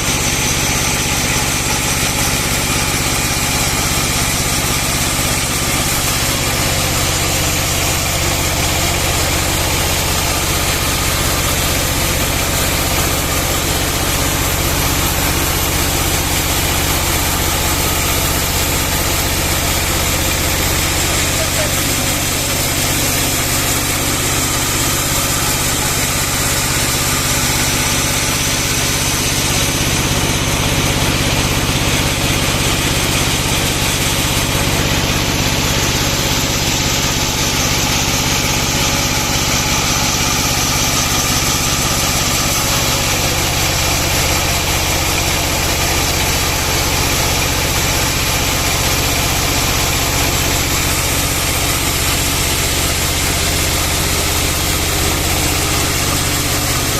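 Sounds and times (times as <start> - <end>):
band sawmill engine drone: 0.0 - 56.9.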